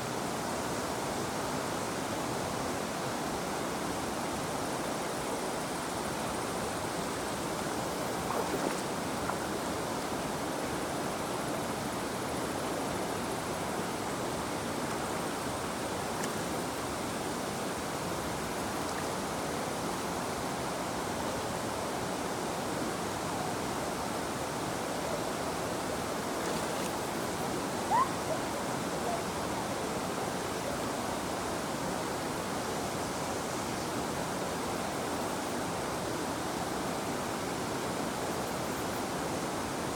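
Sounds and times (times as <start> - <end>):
river water flowing: 0.2 - 39.9.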